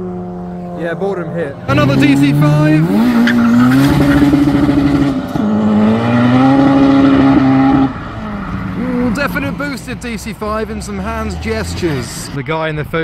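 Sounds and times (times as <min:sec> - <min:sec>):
car accelerating past: 0:00.0 - 0:12.4.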